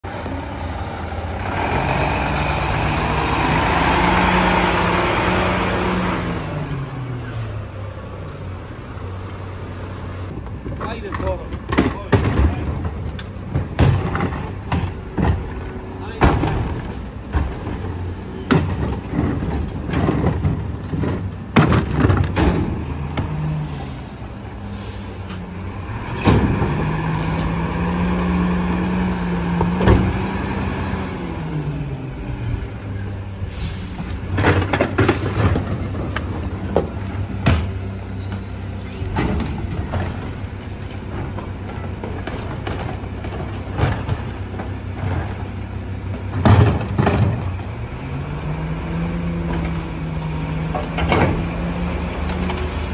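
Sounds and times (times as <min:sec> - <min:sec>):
garbage truck diesel engine: 0:00.0 - 0:52.9.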